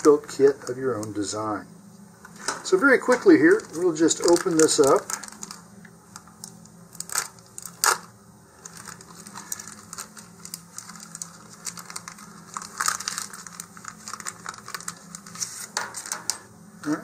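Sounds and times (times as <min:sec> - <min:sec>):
plastic bag crinkling: 0:02.3 - 0:16.5.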